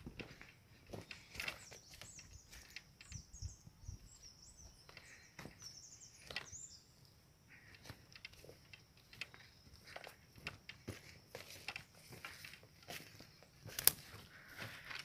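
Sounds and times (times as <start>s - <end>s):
footsteps on forest floor: 0.0s - 3.3s, 4.1s - 6.8s, 7.5s - 15.0s
songbird chirping: 0.0s - 15.0s.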